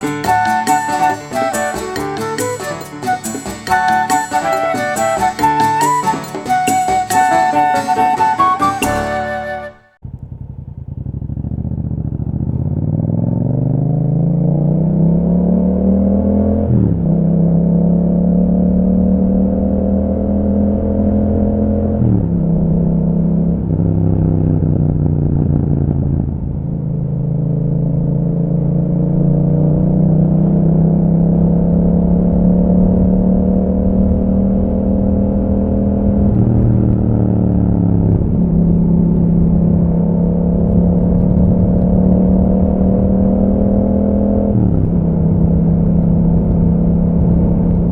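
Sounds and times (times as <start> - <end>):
motorcycle accelerating: 0.0 - 47.9.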